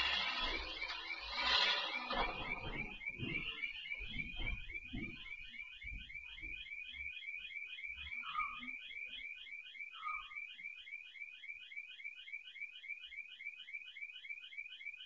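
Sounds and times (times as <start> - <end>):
warbling alarm siren: 0.0 - 15.0.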